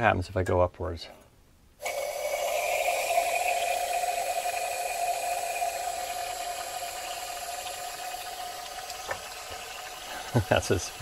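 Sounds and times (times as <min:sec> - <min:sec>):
cream dribbling: 0:01.8 - 0:11.0
gas hissing from cream can: 0:01.8 - 0:11.0.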